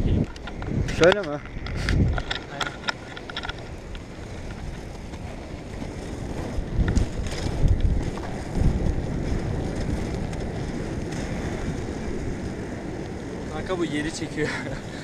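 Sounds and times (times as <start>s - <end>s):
skate wheels rolling on asphalt: 0.0s - 15.0s
wind buffeting microphone: 0.0s - 15.0s.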